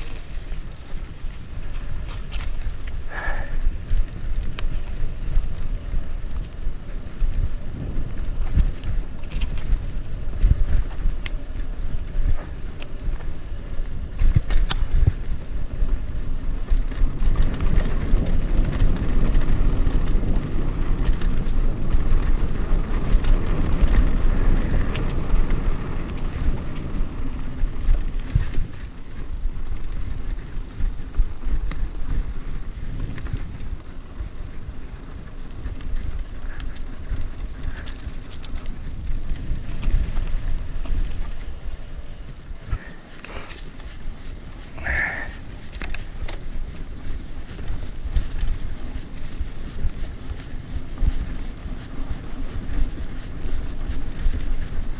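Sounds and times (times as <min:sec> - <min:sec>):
bike clicking and knocking: 0:00.0 - 0:54.9
tyres crunching over dirt: 0:00.0 - 0:54.9
wind on camera microphone: 0:00.0 - 0:54.9.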